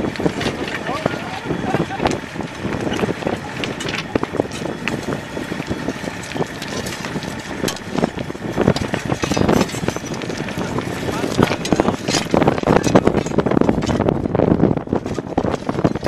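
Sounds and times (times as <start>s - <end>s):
excavator engine running: 0.0s - 16.0s
wind buffeting microphone: 0.0s - 16.0s.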